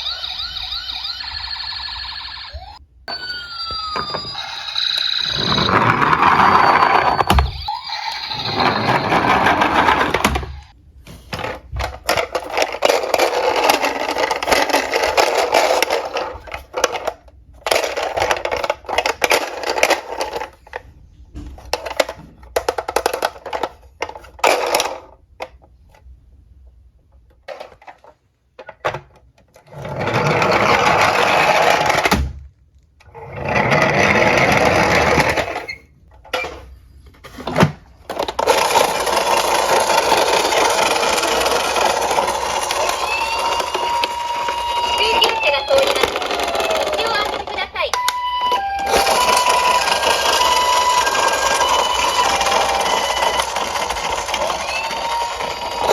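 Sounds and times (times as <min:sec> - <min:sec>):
toy cars rolling and rattling: 0:00.0 - 0:26.1, 0:27.2 - 0:55.9.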